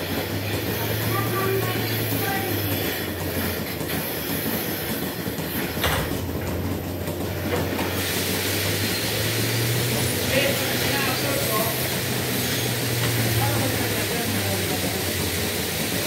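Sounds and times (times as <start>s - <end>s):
milking machinery humming: 0.0s - 16.0s.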